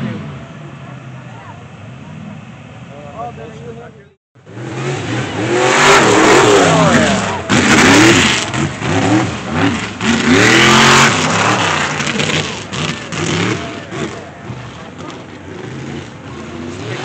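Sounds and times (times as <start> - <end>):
truck engine revving hard: 0.0 - 1.4, 4.4 - 17.0.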